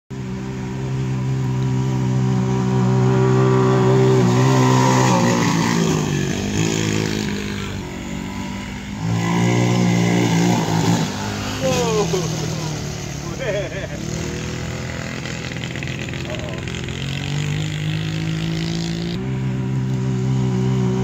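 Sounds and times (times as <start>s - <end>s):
small engine running: 0.2s - 21.0s.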